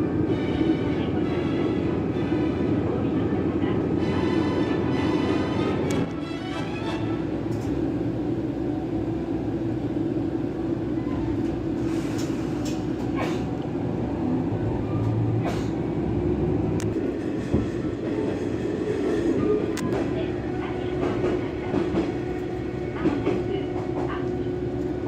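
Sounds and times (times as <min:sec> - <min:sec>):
diesel railcar rumble: 0:00.0 - 0:25.0.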